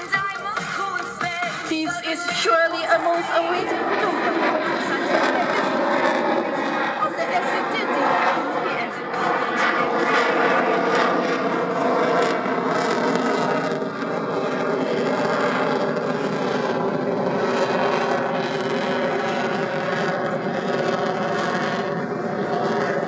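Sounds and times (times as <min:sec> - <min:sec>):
fighter jet engine roar: 0:00.0 - 0:23.0.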